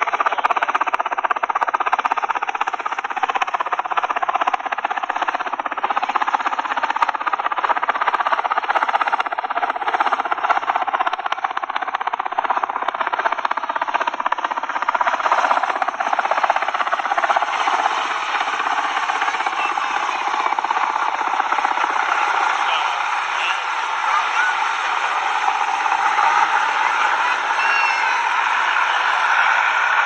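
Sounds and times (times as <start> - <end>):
helicopter rotor chopping: 0.0 - 30.0.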